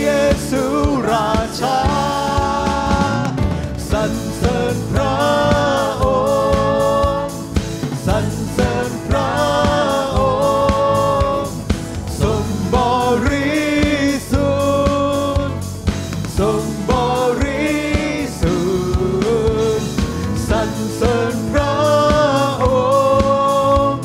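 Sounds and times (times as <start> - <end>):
drum beat: 0.0 - 24.0
people singing: 0.0 - 24.0
worship band playing: 0.0 - 24.0.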